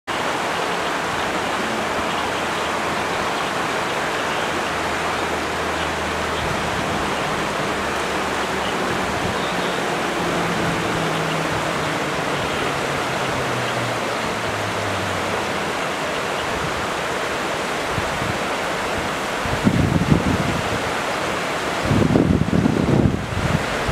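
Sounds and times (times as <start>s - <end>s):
river water rushing over stones: 0.1s - 23.9s.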